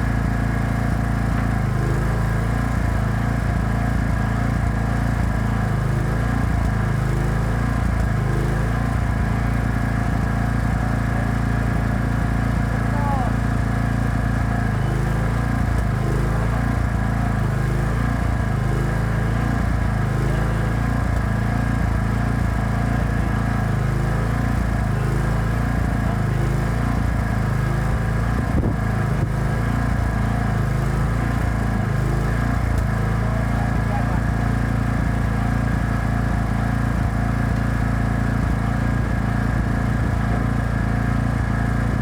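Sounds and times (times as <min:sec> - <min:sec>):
welding generator humming: 0:00.0 - 0:42.0.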